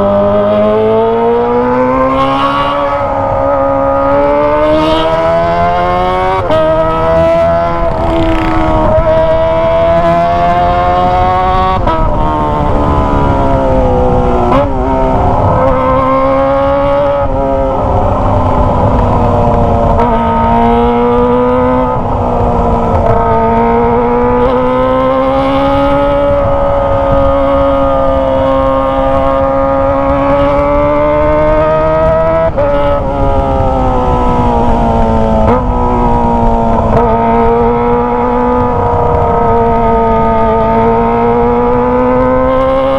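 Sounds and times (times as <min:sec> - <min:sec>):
motorcycle engine shifting gears: 0:00.0 - 0:42.9.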